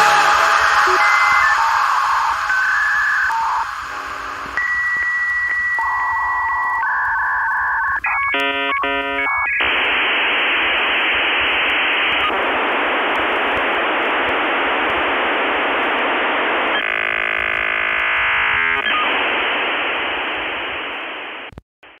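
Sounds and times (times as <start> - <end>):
buzzy tones: 0.0 - 6.0, 8.1 - 21.3
static hiss: 0.0 - 21.6.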